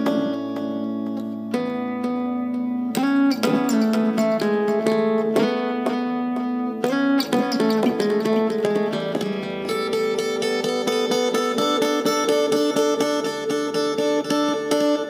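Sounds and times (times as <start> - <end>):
fingerpicked acoustic guitar with delay: 0.0 - 15.0.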